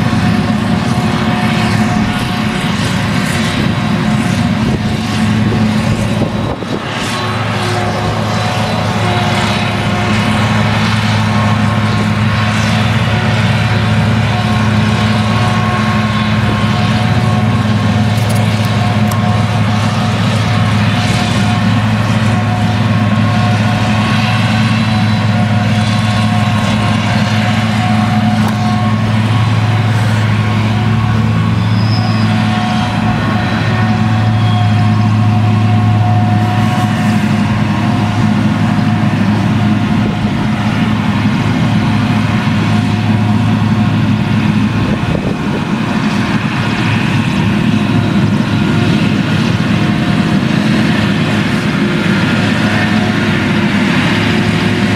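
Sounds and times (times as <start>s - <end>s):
deep engine drone: 0.0s - 54.9s
high machine whine: 0.0s - 54.9s.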